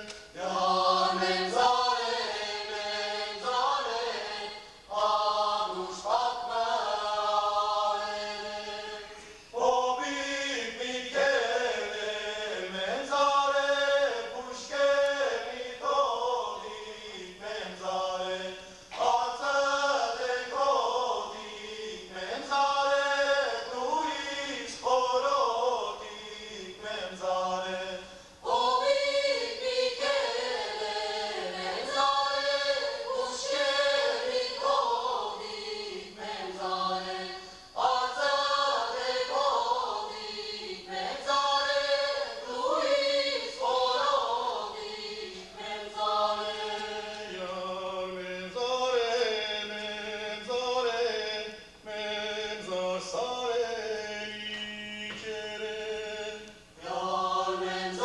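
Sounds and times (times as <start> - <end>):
group singing folk song: 0.0 - 58.0.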